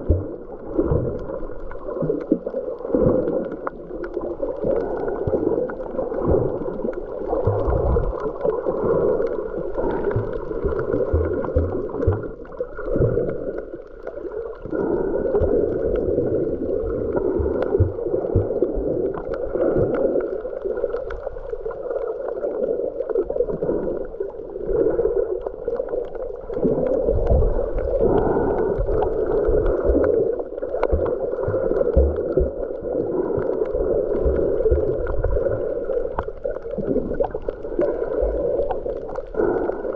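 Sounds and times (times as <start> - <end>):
underwater water sloshing: 0.0 - 39.9.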